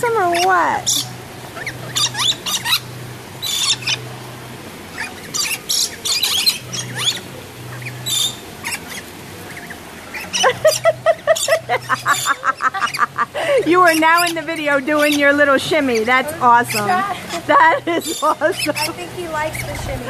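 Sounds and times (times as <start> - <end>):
parrots calling with high cries: 0.0 - 20.0.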